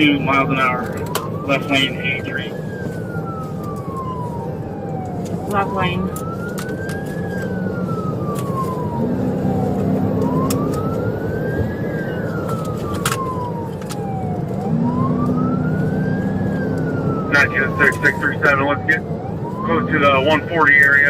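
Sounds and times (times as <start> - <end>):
car engine and road noise: 0.0 - 21.0
police siren wailing: 0.0 - 21.0.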